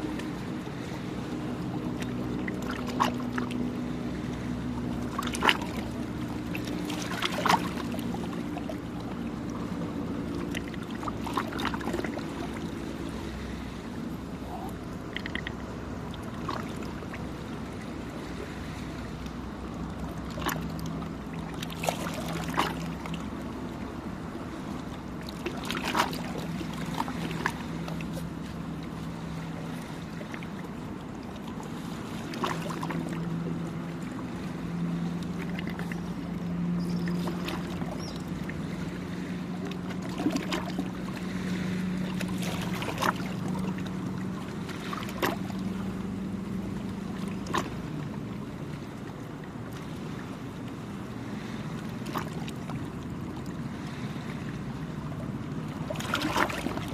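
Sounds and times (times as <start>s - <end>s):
engine droning: 0.0s - 56.9s
small waves splashing: 0.0s - 56.9s.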